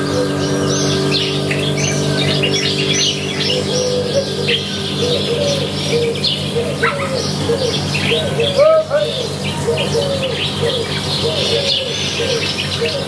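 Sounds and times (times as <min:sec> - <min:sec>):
low warbling bird calls: 0:00.0 - 0:13.0
small birds chirping chorus: 0:00.0 - 0:13.0
steady low hum: 0:00.0 - 0:13.0.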